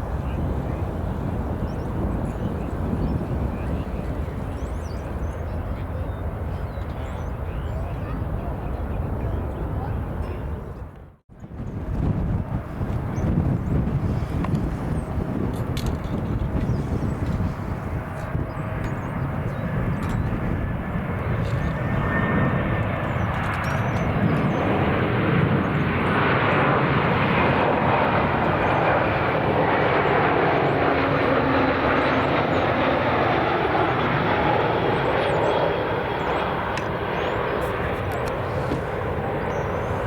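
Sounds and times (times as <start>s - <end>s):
jet airliner engines passing: 0.0s - 40.0s.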